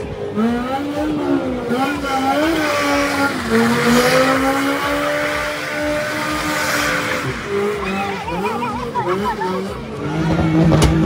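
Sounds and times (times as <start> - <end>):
car engine revving high: 0.0 - 11.0
spinning tyres hissing: 1.1 - 10.2.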